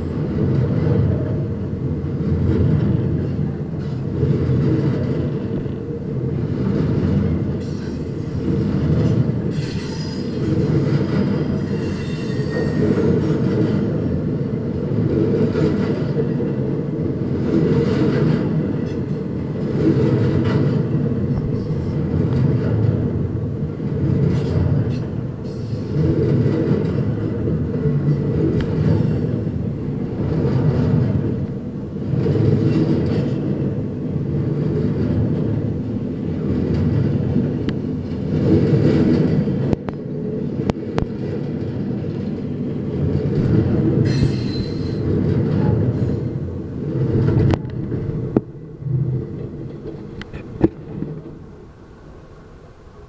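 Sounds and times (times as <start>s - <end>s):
clacks at rail joints: 0.0s - 51.5s
train wheels rumbling on rail: 0.0s - 53.0s.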